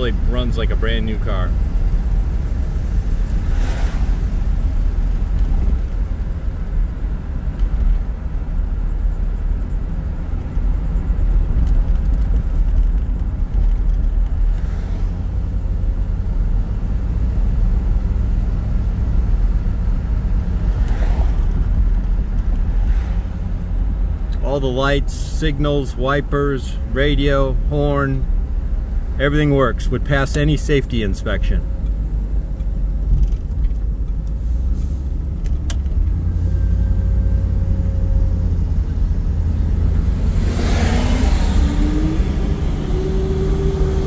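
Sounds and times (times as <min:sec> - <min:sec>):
car engine and tyres drone: 0:00.0 - 0:44.0
passing vehicles rushing: 0:00.0 - 0:44.0.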